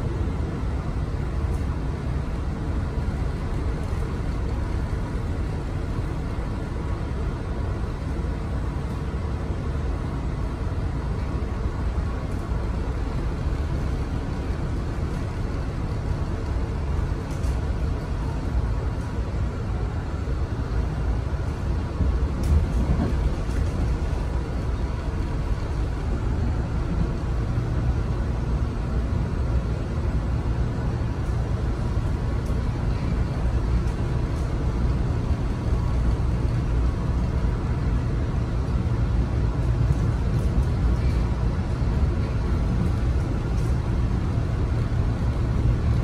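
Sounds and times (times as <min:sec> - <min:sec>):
faint steady whine: 0:00.0 - 0:46.0
train wheels rumbling on rails: 0:00.0 - 0:46.0.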